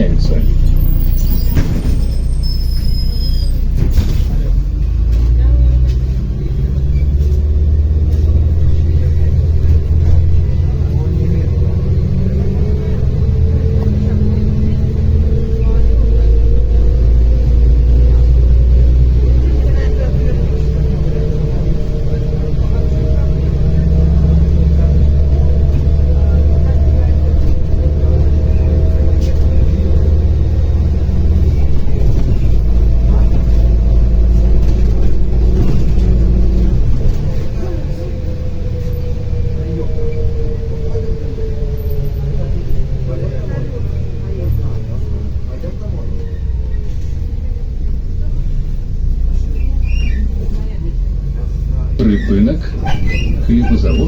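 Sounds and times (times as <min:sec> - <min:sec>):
bus diesel engine drone: 0:00.0 - 0:54.0
road rumble: 0:00.0 - 0:54.0.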